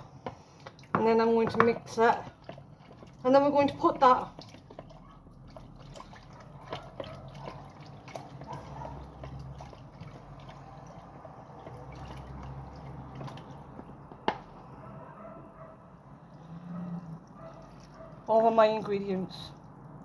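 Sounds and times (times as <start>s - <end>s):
spoon stirring liquid: 0.0s - 20.0s.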